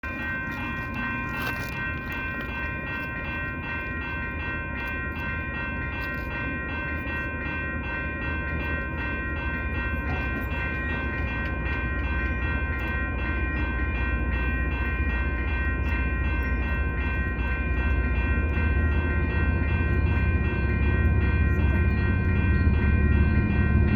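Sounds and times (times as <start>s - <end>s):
locomotive engine rumble: 0.0s - 23.9s.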